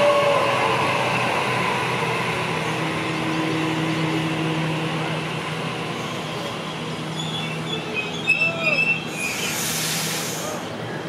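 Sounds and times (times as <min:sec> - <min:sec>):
train wheel and running noise: 0:00.0 - 0:11.0.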